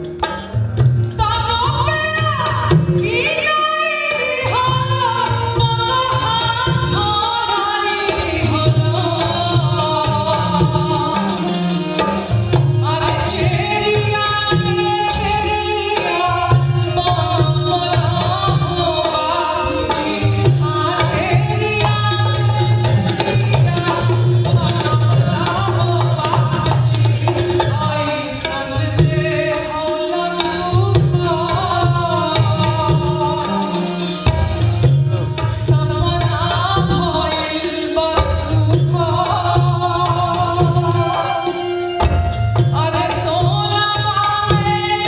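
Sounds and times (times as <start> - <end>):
drums and percussion: 0.0 - 45.0
woman singing: 1.2 - 45.0.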